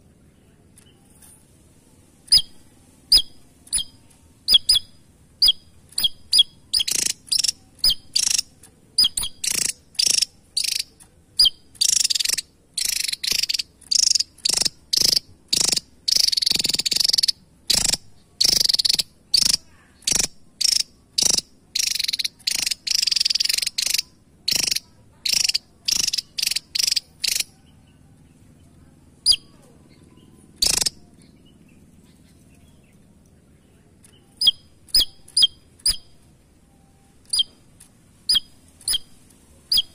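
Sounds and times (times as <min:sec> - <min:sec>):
bird singing high sharp notes: 0:02.3 - 0:27.6, 0:29.2 - 0:33.0, 0:34.0 - 0:37.6, 0:38.2 - 0:39.9.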